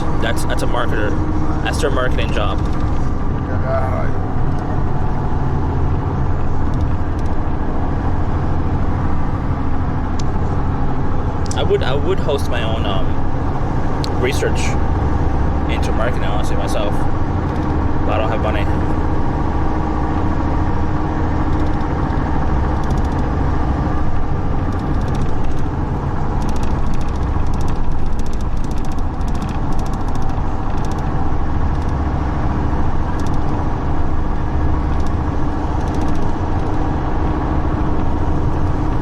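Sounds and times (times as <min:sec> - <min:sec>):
car driving heard from cabin: 0:00.0 - 0:39.0.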